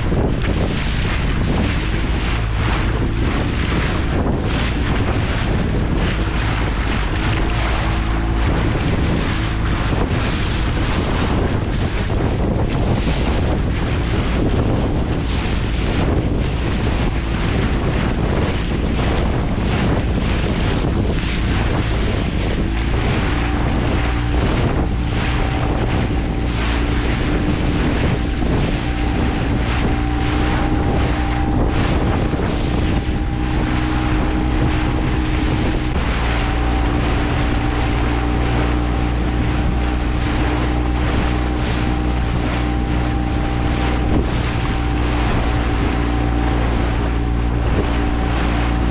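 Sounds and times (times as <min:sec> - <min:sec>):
boat engine hum: 0:00.0 - 0:48.9
water rushing past hull: 0:00.0 - 0:48.9
wind buffeting microphone: 0:00.0 - 0:48.9.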